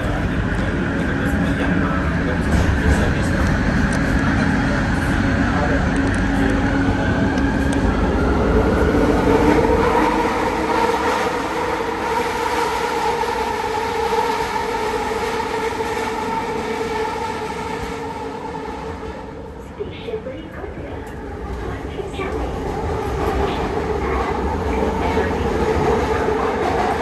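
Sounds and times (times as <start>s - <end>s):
deep train rumble: 0.0s - 27.0s
metro train motor whine: 0.0s - 27.0s.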